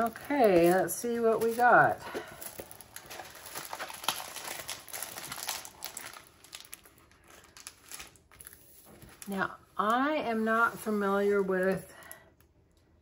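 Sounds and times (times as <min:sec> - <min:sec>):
plastic sheet crinkling: 0:00.0 - 0:11.9.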